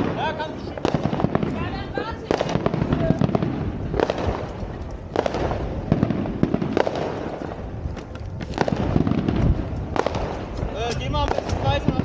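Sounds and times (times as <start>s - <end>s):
fireworks bangs: 0.0s - 12.0s
fireworks rumble and crackle: 0.0s - 12.0s.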